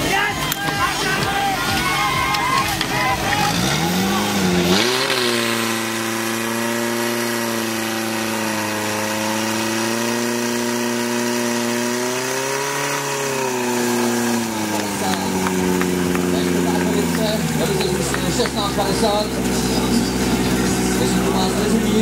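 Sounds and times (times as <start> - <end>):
pump engine running at high revs: 0.0 - 22.0.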